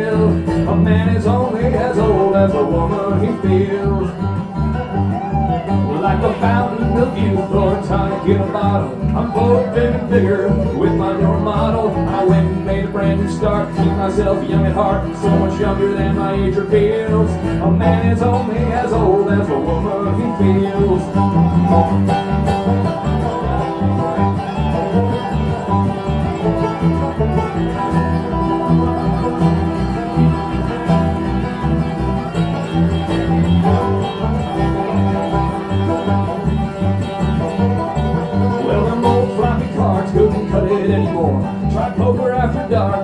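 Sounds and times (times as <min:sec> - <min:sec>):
banjo picking: 0:00.0 - 0:43.0
guitar picking: 0:00.0 - 0:43.0.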